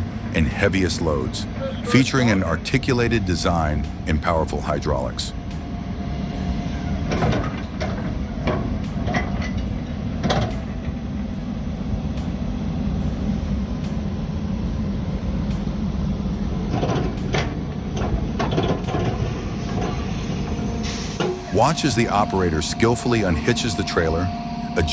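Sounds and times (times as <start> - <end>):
truck engine rumbling: 0.0 - 24.9.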